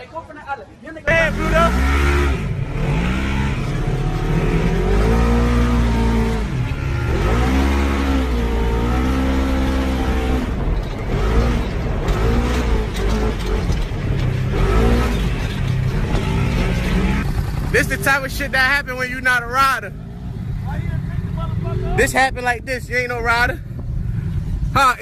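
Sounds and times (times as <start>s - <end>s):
engines revving: 1.1s - 25.0s.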